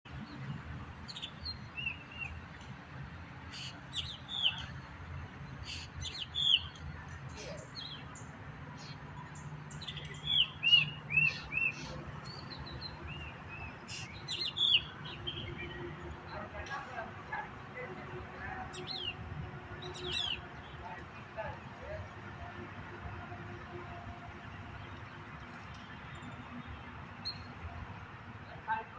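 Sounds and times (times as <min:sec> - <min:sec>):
birds chirping: 0:00.1 - 0:28.9.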